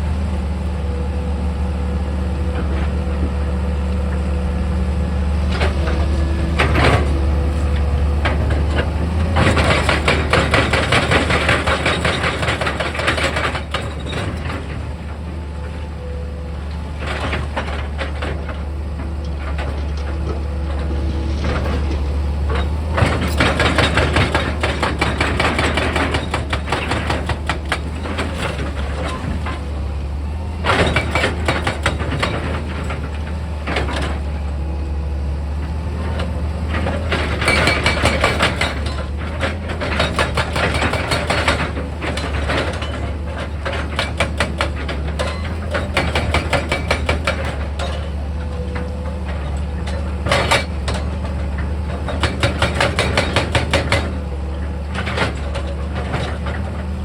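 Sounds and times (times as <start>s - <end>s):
excavator engine humming: 0.0s - 57.0s.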